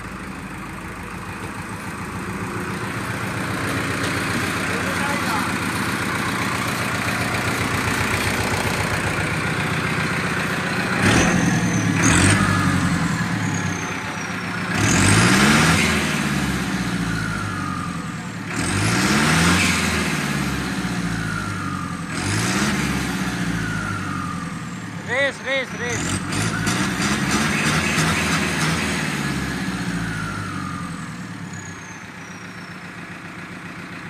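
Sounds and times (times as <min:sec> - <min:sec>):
tractor diesel engine revving: 0:00.0 - 0:34.0.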